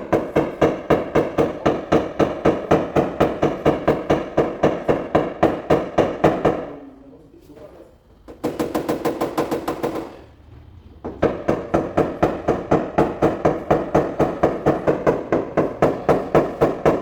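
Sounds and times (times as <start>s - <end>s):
hammer tapping on sheet metal: 0.0s - 6.8s, 8.3s - 10.2s, 11.0s - 17.0s.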